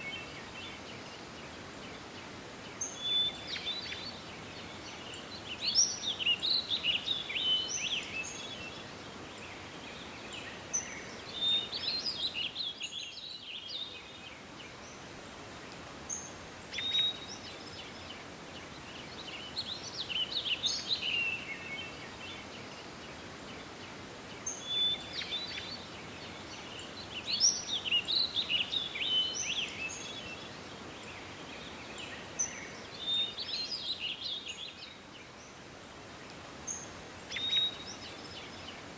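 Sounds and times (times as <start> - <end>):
songbirds singing: 0.0 - 38.9
steady background hiss: 0.0 - 38.9.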